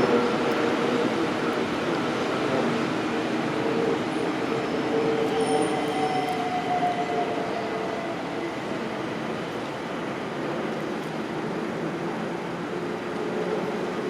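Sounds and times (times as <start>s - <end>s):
passing train drone: 0.0s - 14.0s.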